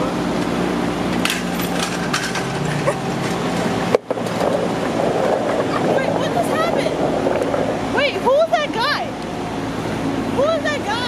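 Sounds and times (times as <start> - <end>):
traffic running steadily: 0.0 - 11.0.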